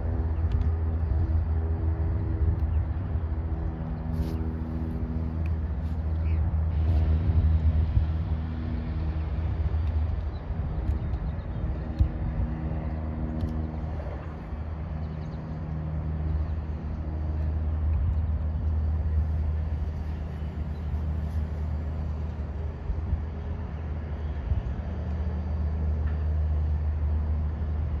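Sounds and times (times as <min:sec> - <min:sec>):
distant vehicle engines humming: 0:00.0 - 0:28.0
faint outdoor city noise: 0:00.0 - 0:28.0.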